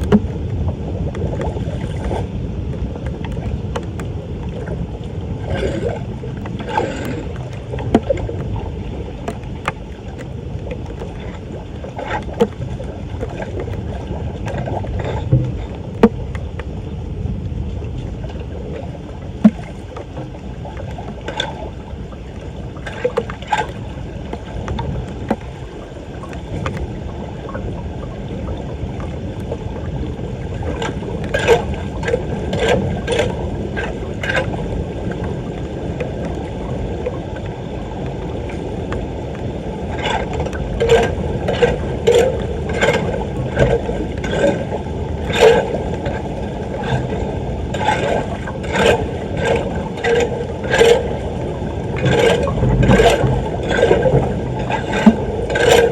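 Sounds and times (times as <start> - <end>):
floodwater rushing: 0.0 - 55.9.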